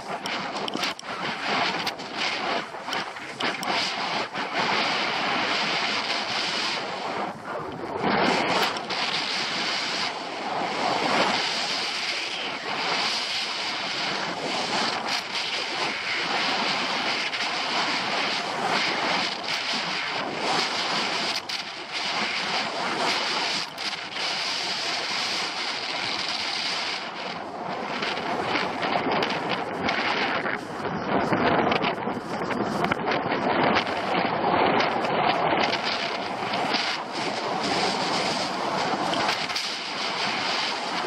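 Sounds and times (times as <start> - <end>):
skis scraping over snow: 0.0 - 41.0
wind buffeting microphone: 0.0 - 41.0.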